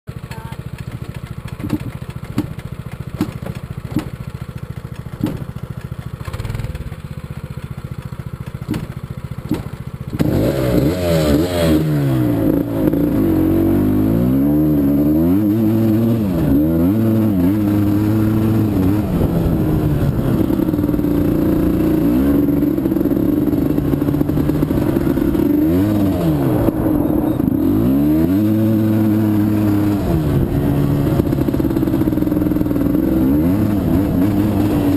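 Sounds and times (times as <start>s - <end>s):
quad engine idling and revving: 0.1s - 34.9s.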